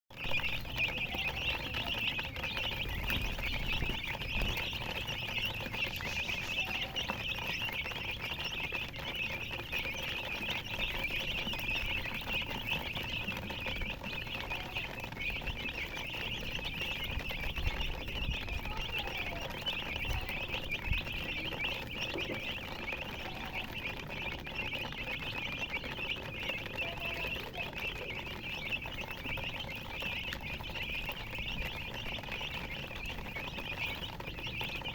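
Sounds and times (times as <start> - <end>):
baby chicks chirping: 0.1 - 34.9.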